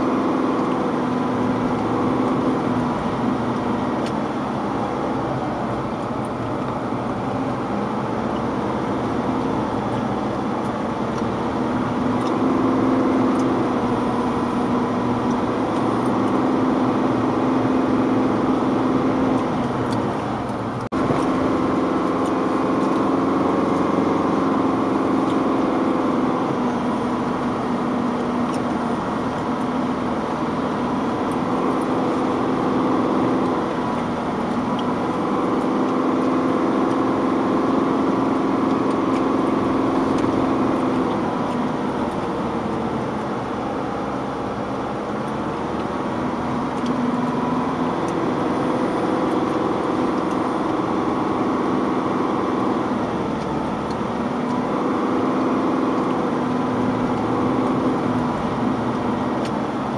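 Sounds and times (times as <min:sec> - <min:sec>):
vehicle engine heard from cabin: 0:00.0 - 0:59.9.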